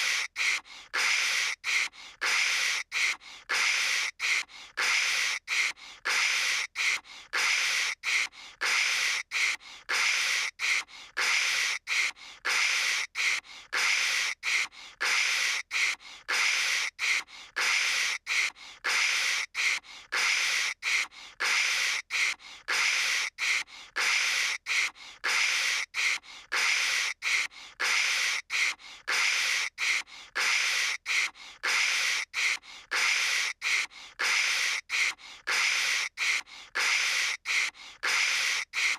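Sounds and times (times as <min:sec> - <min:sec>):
voice imitating static hissing: 0:00.0 - 0:38.9.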